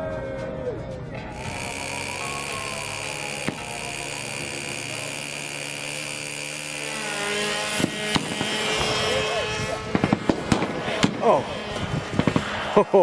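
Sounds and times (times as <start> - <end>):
model airplane engine buzzing: 1.3 - 13.0
sharp cracks: 1.4 - 9.0, 9.9 - 12.8.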